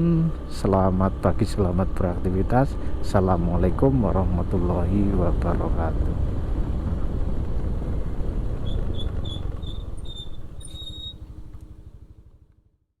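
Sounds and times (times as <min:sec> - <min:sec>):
motorcycle engine rumble: 0:00.0 - 0:12.7.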